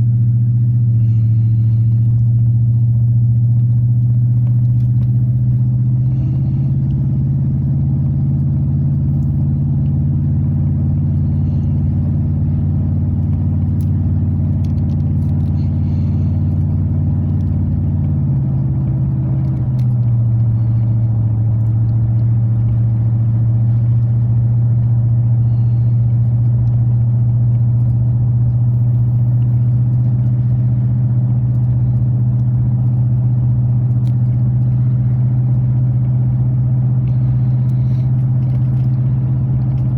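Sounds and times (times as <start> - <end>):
truck engine droning in cab: 0.0 - 39.9.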